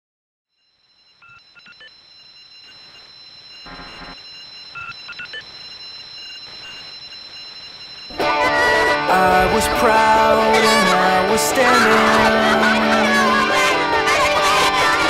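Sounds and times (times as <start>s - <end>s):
phone-like ringing tones: 0.6s - 15.0s
high electronic tones: 0.8s - 15.0s.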